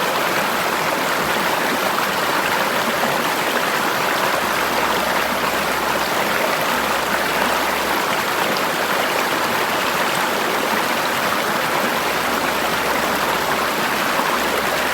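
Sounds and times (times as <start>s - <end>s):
river flowing over rocks: 0.0s - 14.9s.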